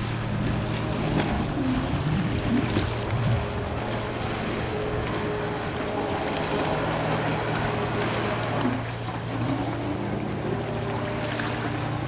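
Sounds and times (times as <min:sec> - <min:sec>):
jet ski engine running: 0:00.0 - 0:12.0
rush of wind and water: 0:00.0 - 0:12.0.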